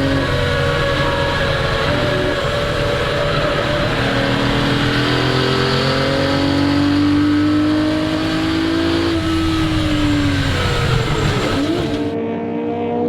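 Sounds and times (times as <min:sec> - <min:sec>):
racing car engine accelerating: 0:00.0 - 0:13.0.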